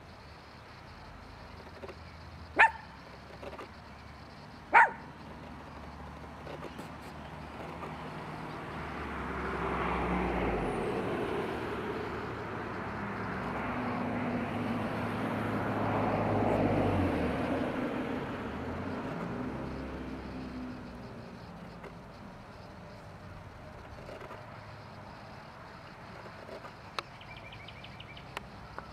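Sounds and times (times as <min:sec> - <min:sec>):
vehicles passing: 0:00.0 - 0:28.9.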